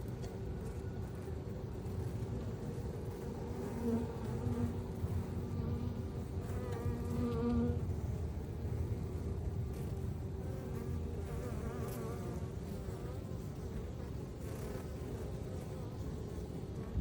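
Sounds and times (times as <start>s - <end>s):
bee flying close by: 0.0s - 17.0s
honeybees buzzing: 0.0s - 17.0s.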